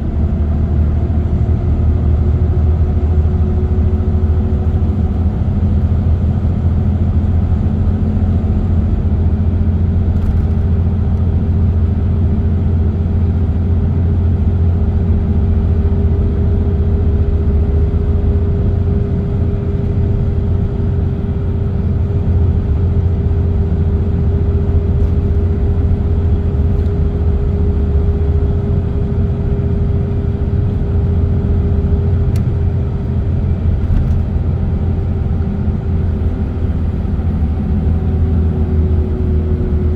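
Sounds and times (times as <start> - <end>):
car tyres and engine rumble: 0.0 - 39.9
constant mid-pitched hum: 0.0 - 39.9.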